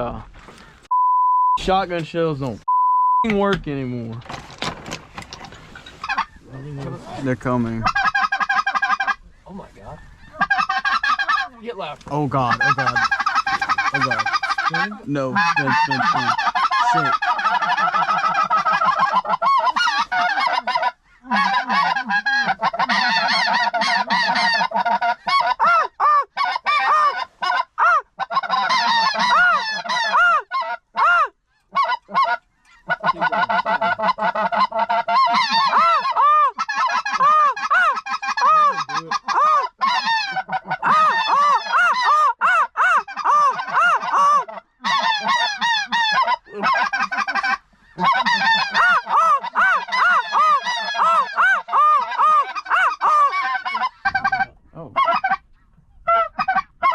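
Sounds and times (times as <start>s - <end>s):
geese honking: 5.4s - 56.9s.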